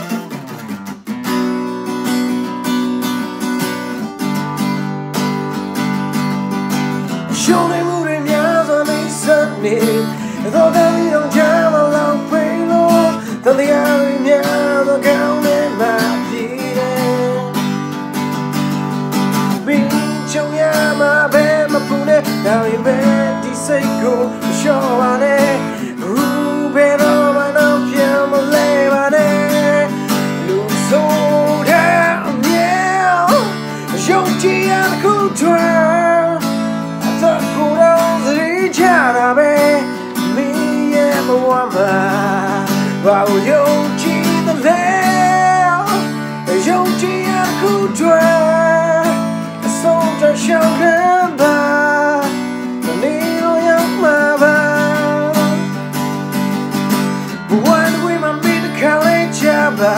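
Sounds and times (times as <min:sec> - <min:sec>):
man singing: 0:00.0 - 0:00.5, 0:07.0 - 0:59.9
acoustic guitar strumming: 0:00.0 - 0:59.9.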